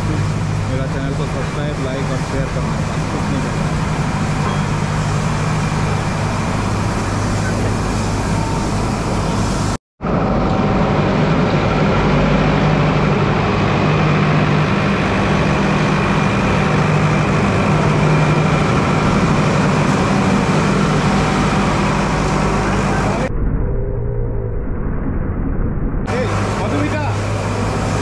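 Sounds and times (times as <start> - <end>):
locomotive engine humming: 0.0 - 23.3, 26.1 - 28.0.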